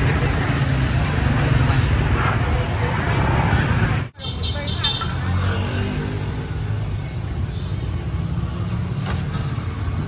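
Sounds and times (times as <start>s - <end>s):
low rumble of road traffic: 0.0s - 10.0s.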